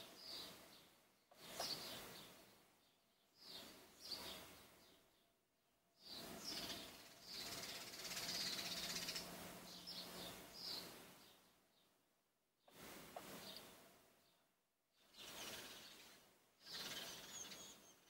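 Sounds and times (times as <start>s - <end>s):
faint birds chirping: 0.0s - 18.0s
outdoor background noise: 0.0s - 18.0s.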